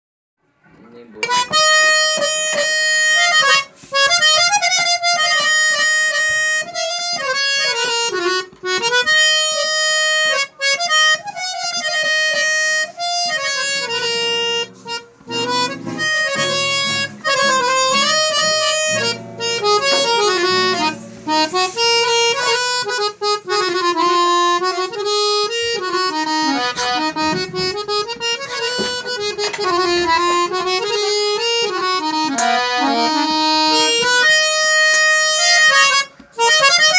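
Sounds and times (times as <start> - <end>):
harmonium held chords: 1.2 - 36.9
harmonium melody: 1.2 - 36.9.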